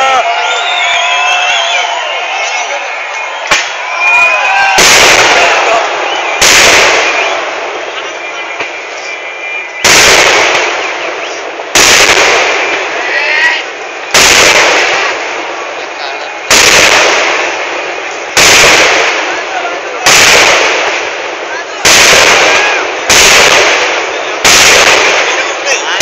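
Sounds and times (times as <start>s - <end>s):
fireworks explosions: 0.0s - 26.0s.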